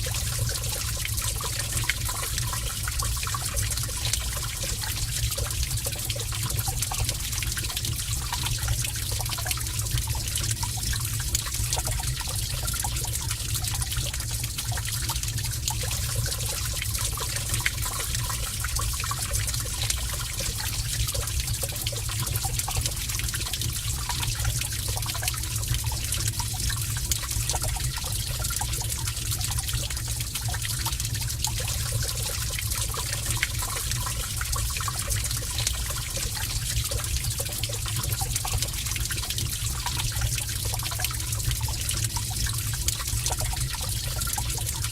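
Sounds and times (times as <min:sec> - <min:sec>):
water rushing in a cave: 0:00.0 - 0:44.9.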